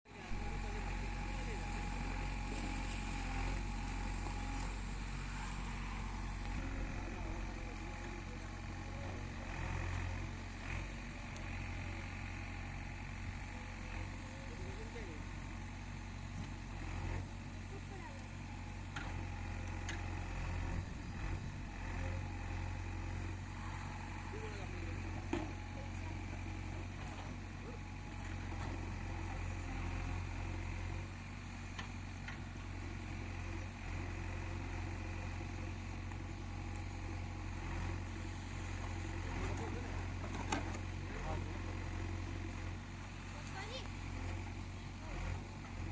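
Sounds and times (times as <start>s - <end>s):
diesel engine humming: 0.1s - 45.9s.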